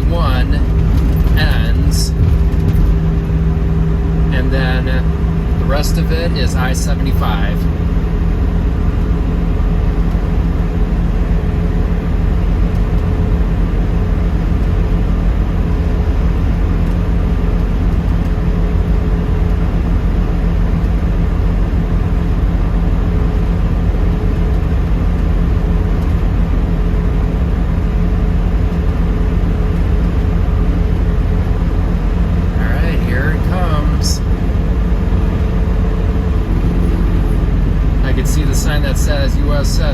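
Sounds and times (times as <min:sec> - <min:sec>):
car engine drone: 0:00.0 - 0:39.9
road and wind noise: 0:00.0 - 0:39.9.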